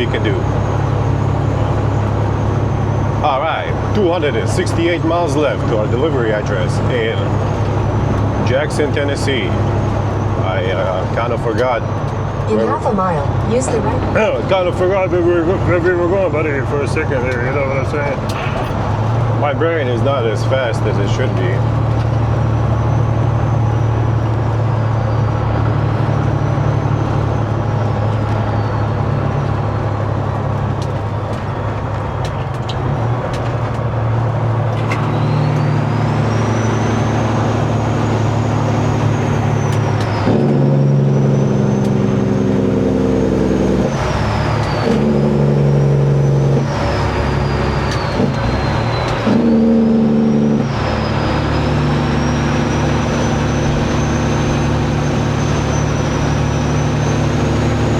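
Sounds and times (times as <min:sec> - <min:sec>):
gear shifts: 0:00.0 - 0:57.9
truck diesel engine running: 0:00.0 - 0:57.9.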